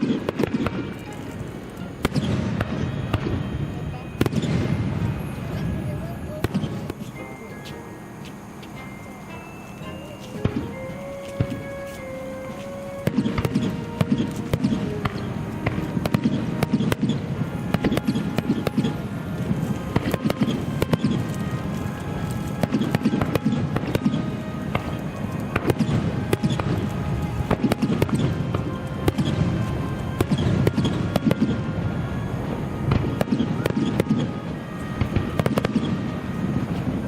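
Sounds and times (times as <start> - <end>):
fireworks bangs and cracks: 0.0 - 37.0
music playing: 0.0 - 37.0.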